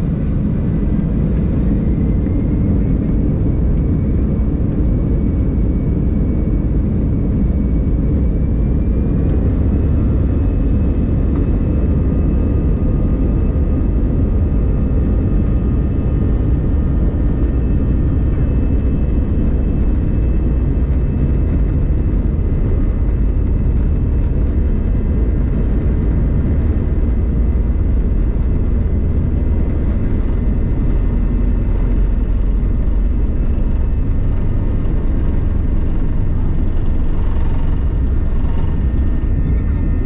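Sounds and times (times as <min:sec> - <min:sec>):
jet engines rumbling and whining: 0:00.0 - 0:40.0.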